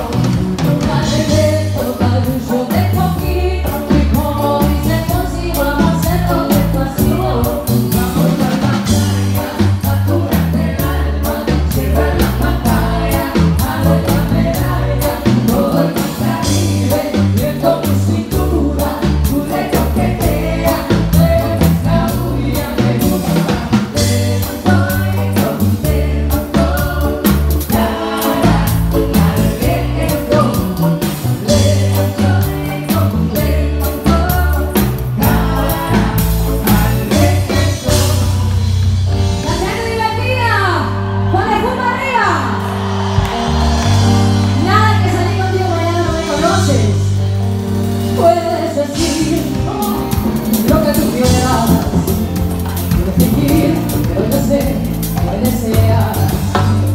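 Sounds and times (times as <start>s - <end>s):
person singing: 0.0s - 38.8s, 48.1s - 56.9s
live band music: 0.0s - 56.9s.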